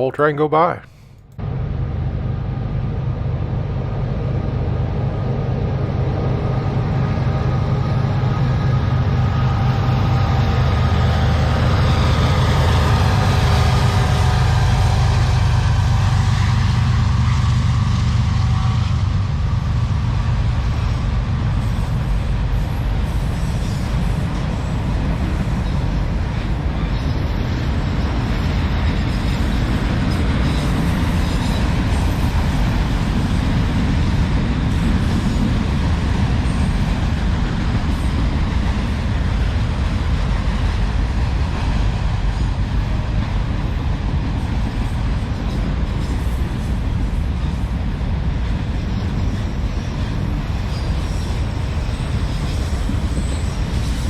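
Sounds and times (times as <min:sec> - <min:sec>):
diesel locomotives running: 0:00.0 - 0:54.0
freight cars rumbling and clattering: 0:01.4 - 0:54.0.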